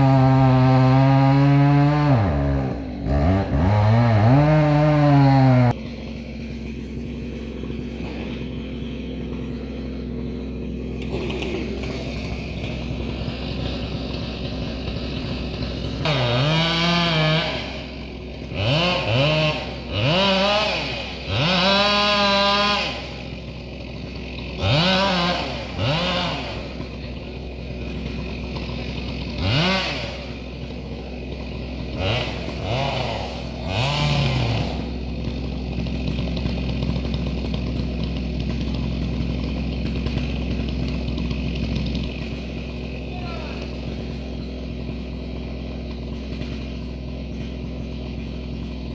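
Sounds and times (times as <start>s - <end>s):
chainsaw idling and revving: 0.0s - 48.9s.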